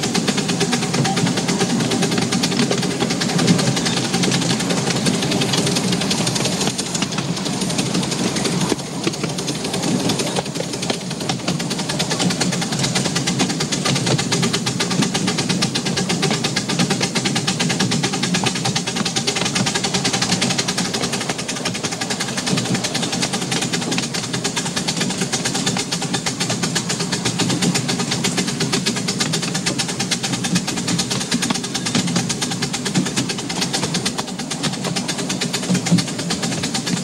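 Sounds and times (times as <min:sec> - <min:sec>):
miniature steam locomotive beat: 0:00.0 - 0:37.0
wheel and track noise: 0:00.0 - 0:37.0.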